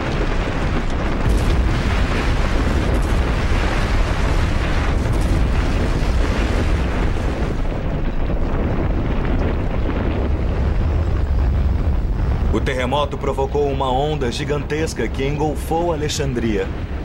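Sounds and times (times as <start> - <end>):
deep earthquake rumble: 0.0 - 17.0.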